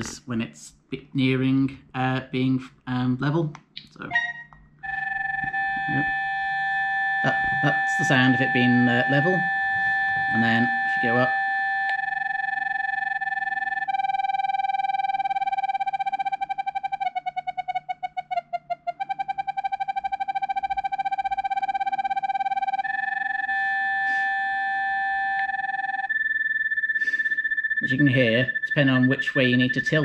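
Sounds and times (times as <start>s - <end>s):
steady electronic beep: 4.1s - 18.4s, 19.0s - 30.0s
pulsing beeps: 4.1s - 30.0s.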